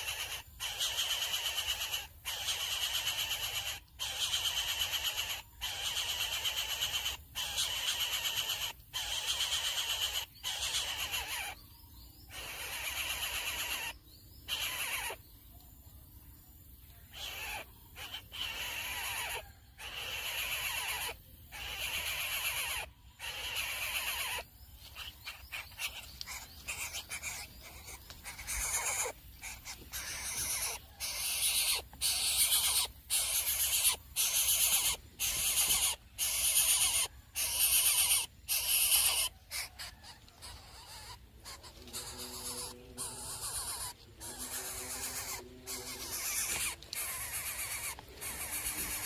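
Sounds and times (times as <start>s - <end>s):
nestlings hissing begging calls: 0.0s - 11.6s, 12.2s - 15.2s, 17.1s - 49.0s.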